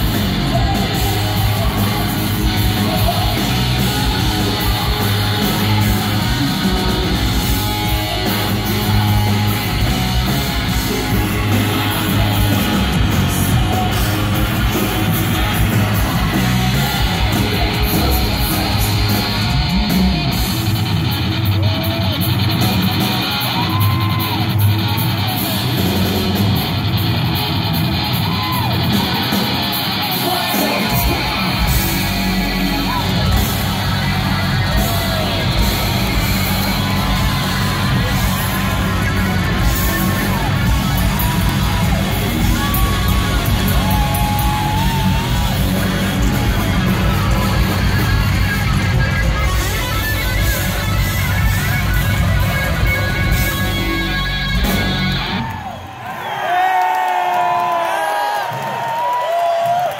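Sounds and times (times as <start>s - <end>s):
distorted electric guitar: 0.0s - 55.8s
live rock band playing: 0.0s - 56.0s.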